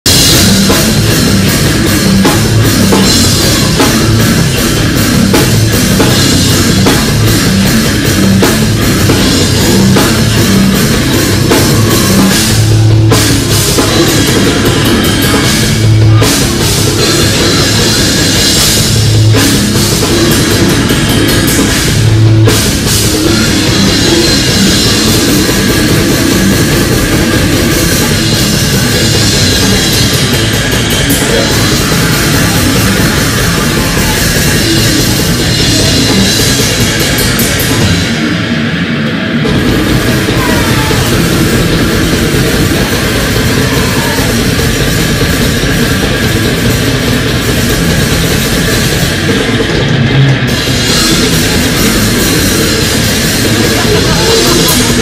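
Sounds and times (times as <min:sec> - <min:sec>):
fast drumming on a drum kit: 0:00.0 - 0:55.0
heavy low accents: 0:00.0 - 0:55.0
live metal band playing: 0:00.0 - 0:55.0.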